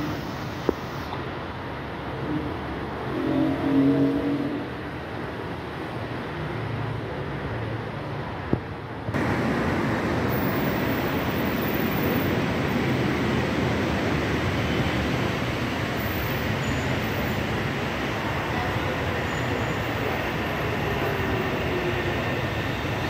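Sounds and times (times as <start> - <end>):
distant road traffic rumble: 0.0 - 23.0.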